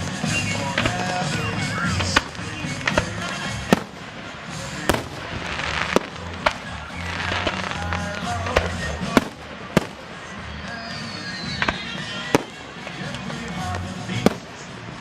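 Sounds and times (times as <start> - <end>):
background music: 0.0 - 15.0
fireworks bangs: 0.0 - 15.0
fireworks crackling hiss: 0.0 - 15.0.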